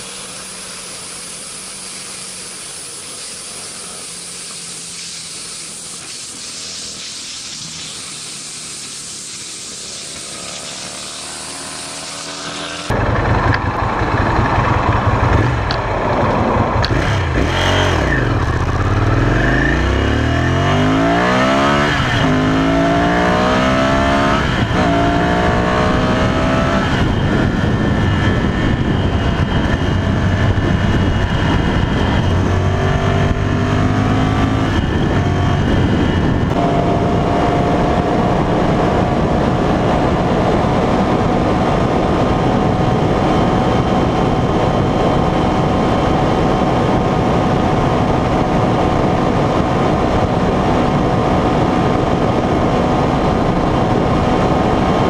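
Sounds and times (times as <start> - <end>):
motorcycle engine accelerating: 0.0 - 55.0
wind rush over microphone: 10.6 - 55.0.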